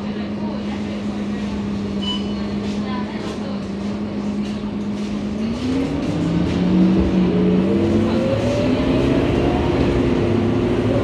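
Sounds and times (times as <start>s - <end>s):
bus engine accelerating: 0.0s - 11.0s.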